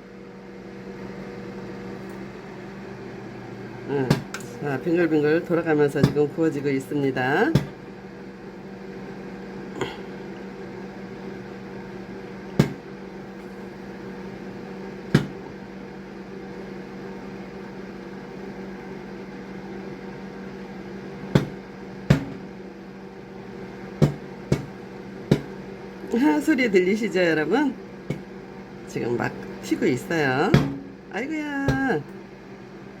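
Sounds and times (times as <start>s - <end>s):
microwave oven humming: 0.0s - 33.0s.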